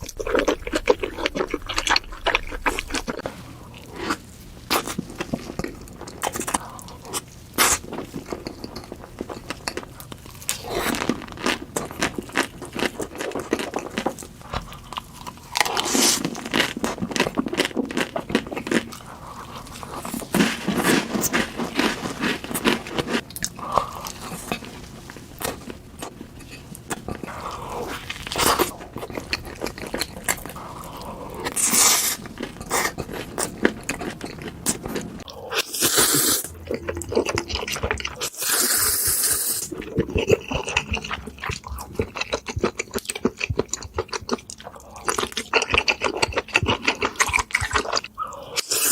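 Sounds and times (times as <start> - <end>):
crunchy bites and chewing: 0.0 - 48.9.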